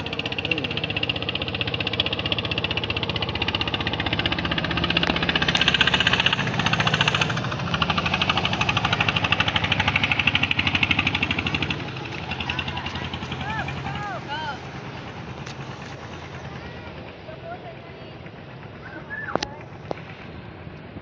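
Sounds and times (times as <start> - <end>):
motorboat engine knocking: 0.0 - 21.0.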